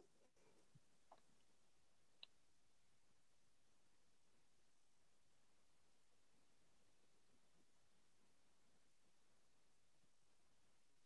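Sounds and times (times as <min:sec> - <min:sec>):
faint microphone hiss: 0:00.0 - 0:11.0.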